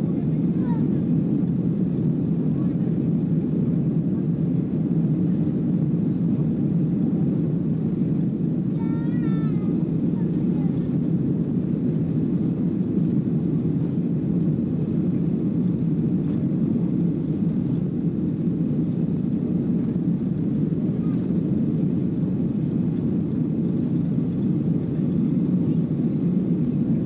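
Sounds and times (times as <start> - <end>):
jet cabin engine rumble: 0.0 - 27.0.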